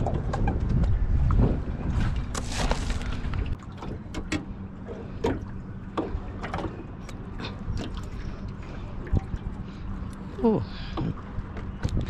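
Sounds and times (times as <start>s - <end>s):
low rumble: 0.0s - 12.0s
water slapping boat hull: 0.0s - 12.0s
faint hum: 0.7s - 12.0s.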